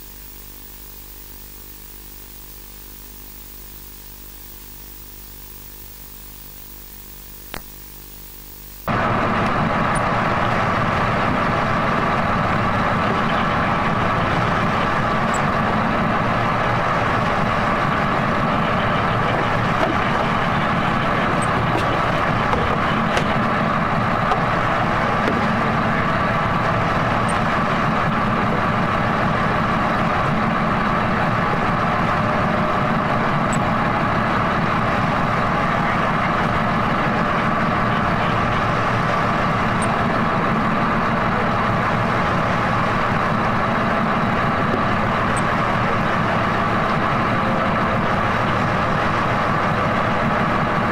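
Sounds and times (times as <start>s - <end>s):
boat engines idling: 8.9s - 50.9s.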